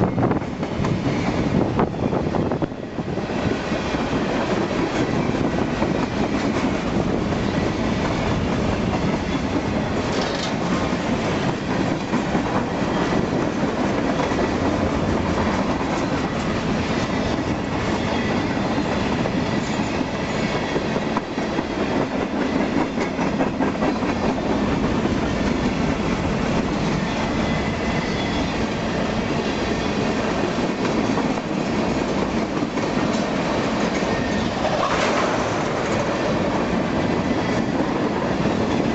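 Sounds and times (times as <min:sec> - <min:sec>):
freight train rumbling past: 0:00.0 - 0:38.9
wheels clacking over rail joints: 0:04.4 - 0:27.3, 0:29.7 - 0:38.9.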